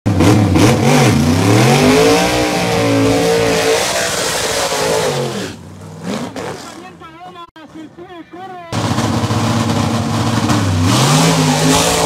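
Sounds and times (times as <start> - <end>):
drag car engine revving: 0.1 - 7.0, 8.8 - 12.0.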